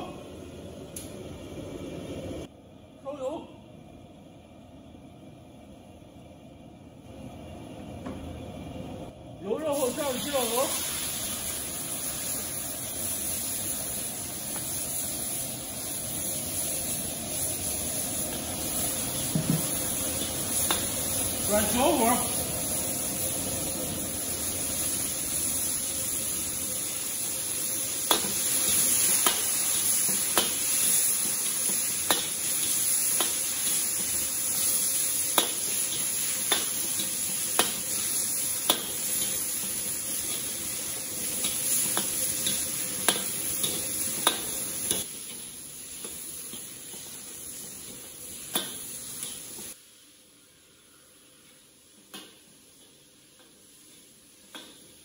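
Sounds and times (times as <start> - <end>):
frying in hot oil sizzling: 9.5 - 55.0.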